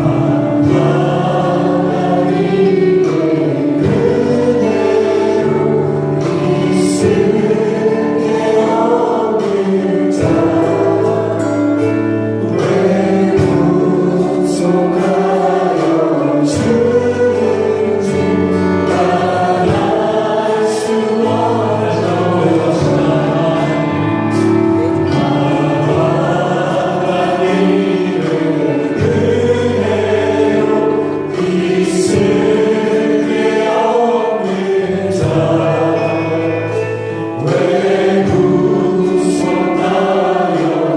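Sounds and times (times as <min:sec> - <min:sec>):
congregation singing worship song: 0:00.0 - 0:40.9
full band accompaniment: 0:00.0 - 0:40.9
sharp beat hits: 0:00.0 - 0:40.9.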